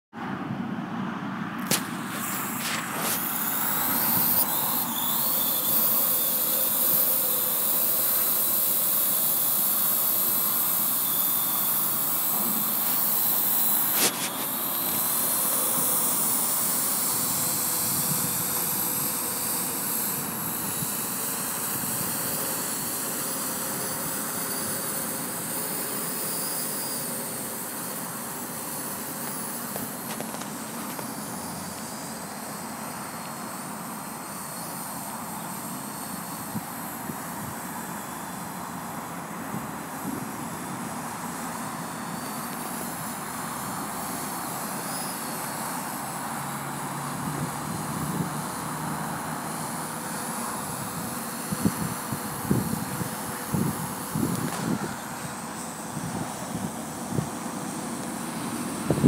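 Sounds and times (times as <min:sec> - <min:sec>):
drone propellers whining: 0:01.5 - 0:59.0.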